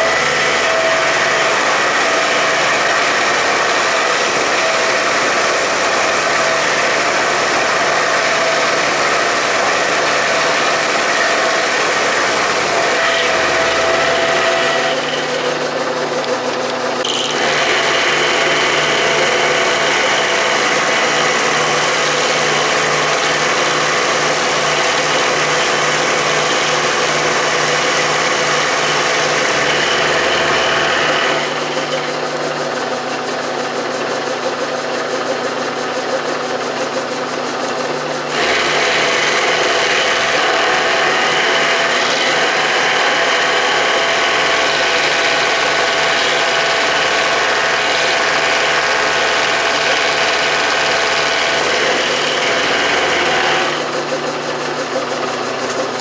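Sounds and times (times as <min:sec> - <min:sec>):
end mill cutting steel: 0:00.0 - 0:56.0
milling machine hum: 0:00.0 - 0:56.0.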